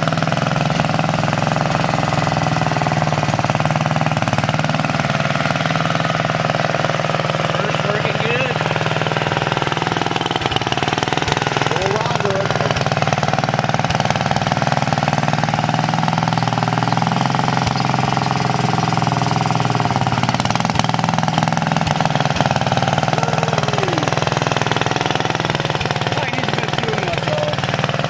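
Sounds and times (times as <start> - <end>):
garden tractor engine running: 0.0 - 28.0.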